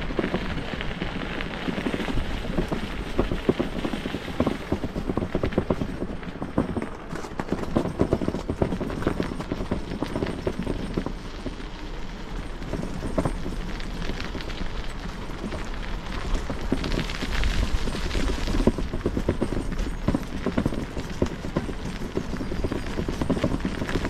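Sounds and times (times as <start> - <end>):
bicycle tyres crunching on ice: 0.0 - 7.8, 8.4 - 24.0
bike rattling over rough surface: 0.0 - 24.0
wind rumble on microphone: 0.0 - 24.0.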